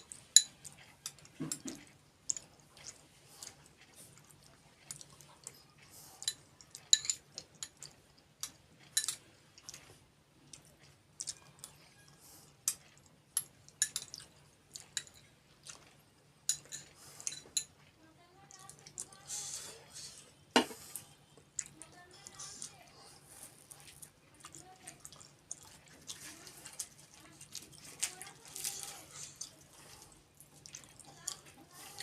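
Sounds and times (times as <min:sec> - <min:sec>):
person chewing and slurping: 0:00.0 - 0:17.9, 0:18.5 - 0:32.0.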